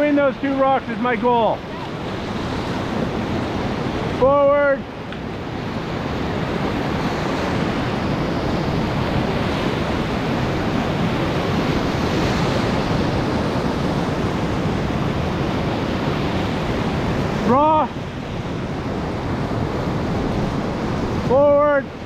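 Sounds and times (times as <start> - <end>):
whitewater rapids rushing: 0.0 - 5.5, 6.2 - 22.0.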